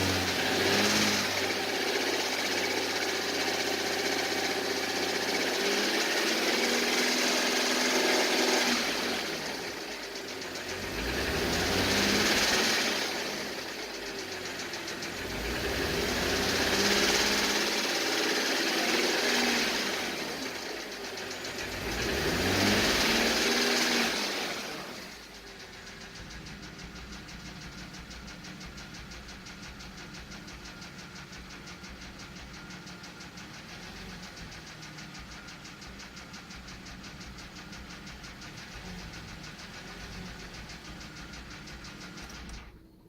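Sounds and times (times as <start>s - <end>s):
car engine knocking: 0.0s - 43.0s.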